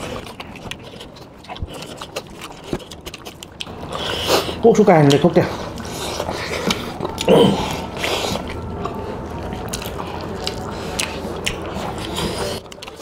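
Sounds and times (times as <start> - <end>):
fingers squishing rice and curry: 0.0 - 13.0
wet chewing: 0.0 - 13.0.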